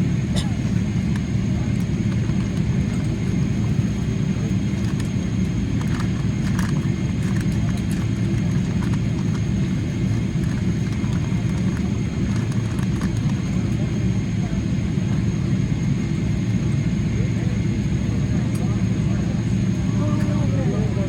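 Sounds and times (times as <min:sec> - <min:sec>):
aircraft cabin rumble: 0:00.0 - 0:21.0.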